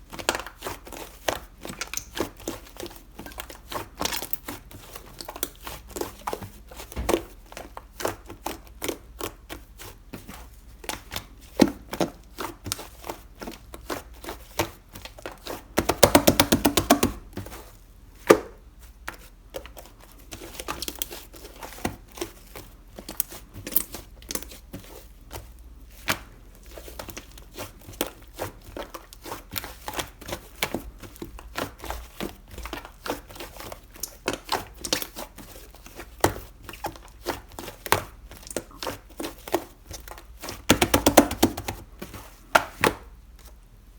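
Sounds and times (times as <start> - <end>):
hands squishing slime: 0.0 - 43.6.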